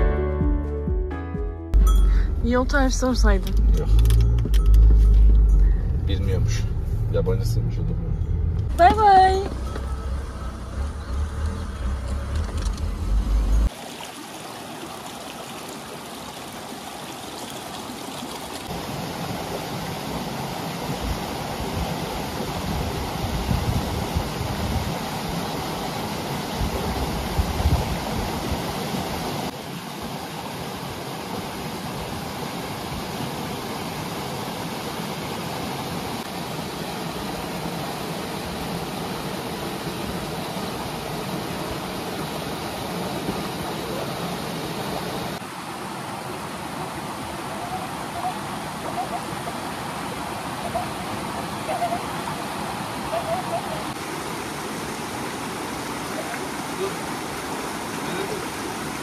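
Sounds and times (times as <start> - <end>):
stream rushing over rocks: 10.9 - 59.0.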